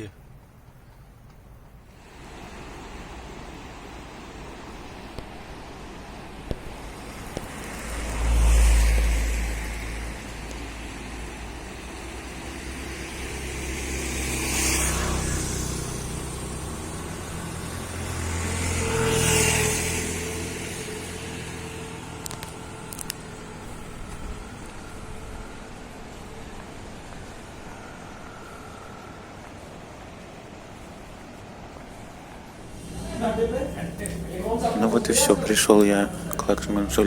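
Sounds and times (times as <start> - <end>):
motor vehicles passing: 2.0 - 37.0.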